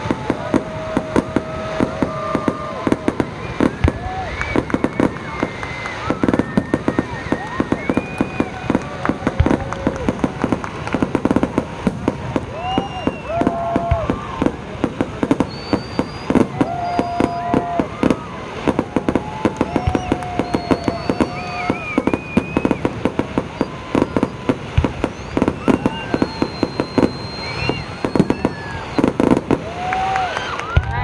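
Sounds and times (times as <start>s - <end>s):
fireworks crackling and popping: 0.0s - 31.0s
fireworks rising tones: 0.0s - 31.0s.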